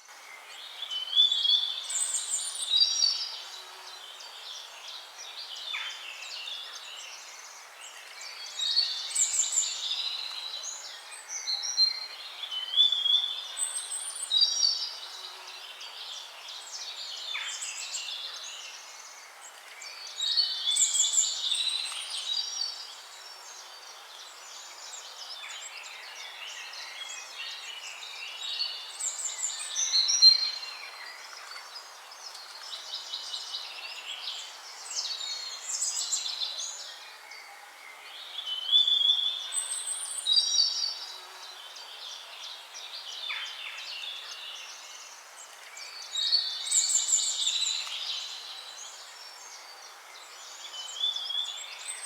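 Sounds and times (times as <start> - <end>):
faint steady hiss: 0.0 - 52.0
songbirds chirping and trilling: 0.0 - 52.0.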